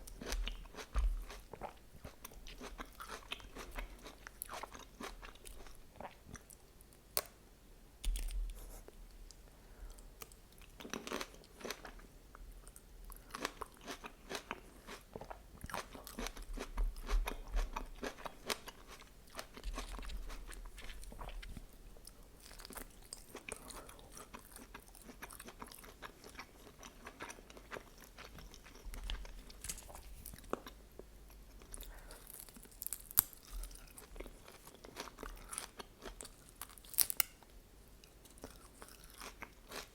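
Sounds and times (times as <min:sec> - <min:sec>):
person chewing food: 0:00.0 - 0:07.3, 0:08.0 - 0:12.0, 0:12.6 - 0:39.9.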